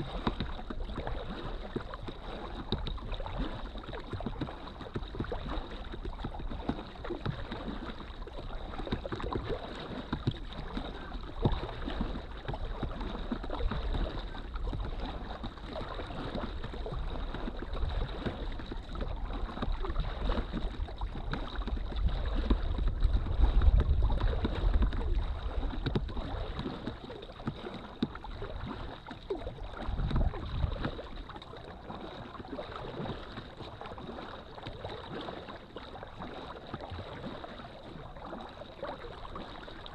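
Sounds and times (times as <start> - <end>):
wind rumbling on microphone: 0.0 - 35.1
water lapping against kayak hull: 0.0 - 39.9.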